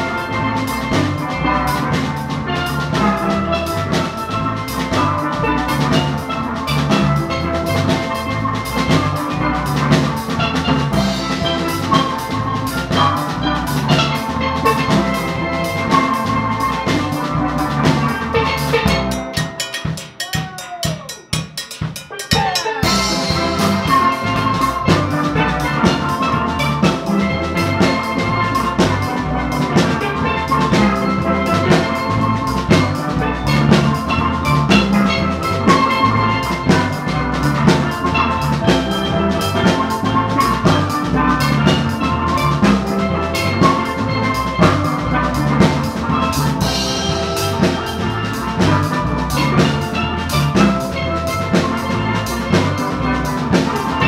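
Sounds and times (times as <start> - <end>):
steel drum band playing: 0.0 - 54.0.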